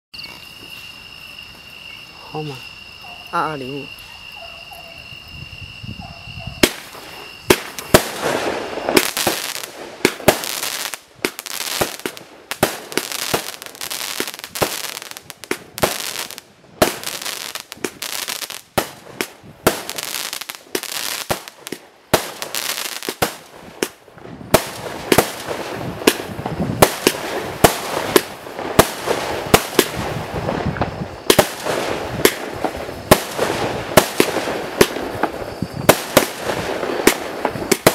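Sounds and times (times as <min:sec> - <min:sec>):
firework hissing: 0:05.4 - 0:37.9
firework pops and bursts: 0:06.6 - 0:37.9.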